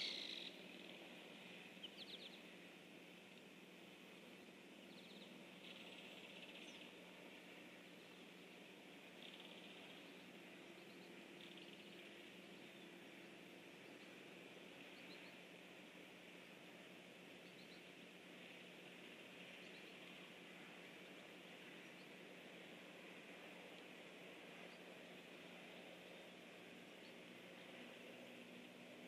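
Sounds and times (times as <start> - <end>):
soft high hiss: 0.0 - 29.0.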